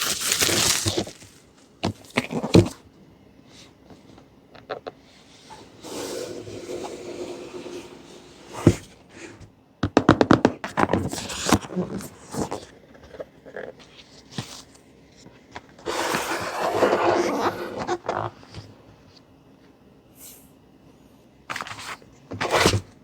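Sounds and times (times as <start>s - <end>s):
packaging rustling and scraping: 0.0s - 2.9s, 3.5s - 9.5s, 10.7s - 19.2s, 21.5s - 23.0s.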